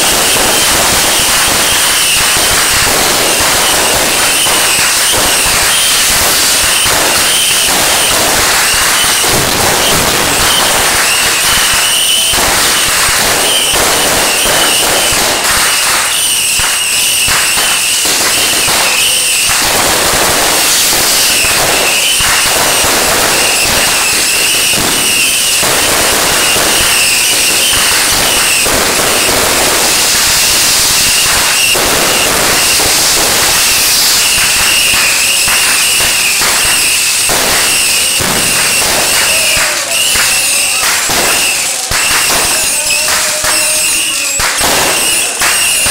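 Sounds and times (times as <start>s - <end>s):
fireworks crackling and banging: 0.0s - 45.9s
high whistling fireworks: 0.0s - 45.9s.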